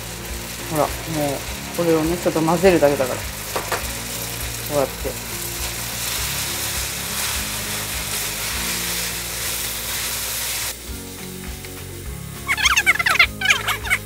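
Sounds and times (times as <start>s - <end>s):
pasta sizzling in a frying pan: 0.0s - 14.0s
soft background music: 0.0s - 14.0s.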